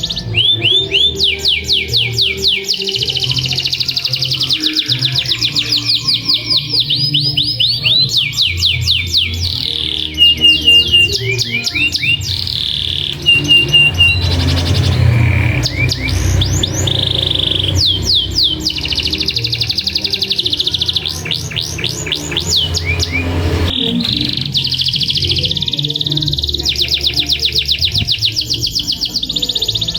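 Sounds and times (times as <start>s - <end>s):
canary singing trills: 0.0s - 29.9s
sharp high bird chips: 0.0s - 29.9s.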